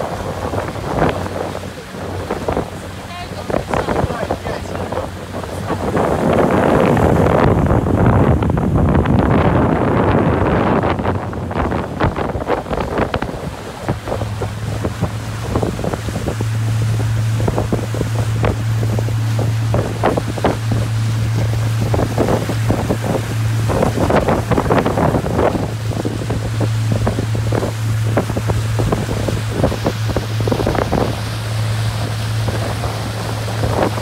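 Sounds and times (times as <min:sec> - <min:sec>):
motorboat engine hum: 0:00.0 - 0:34.0
water splashing against hull: 0:00.0 - 0:34.0
wind buffeting microphone: 0:00.0 - 0:34.0.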